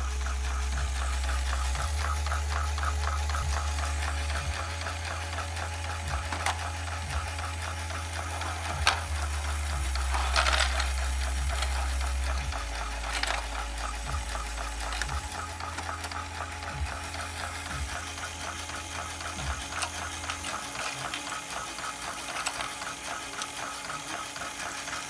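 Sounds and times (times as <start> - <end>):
electric motor hum: 0.0 - 25.0
plastic gears clicking: 0.1 - 25.0.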